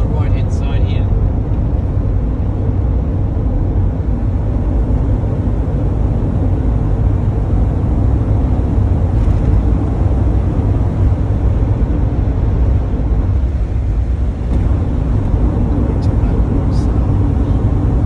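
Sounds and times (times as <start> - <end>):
van engine and tyres rumbling: 0.0 - 18.0.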